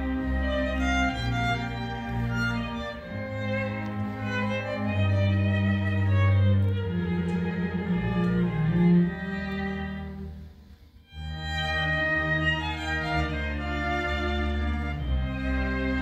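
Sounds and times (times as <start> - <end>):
solo violin: 0.0 - 16.0
string orchestra sustained notes: 0.0 - 16.0.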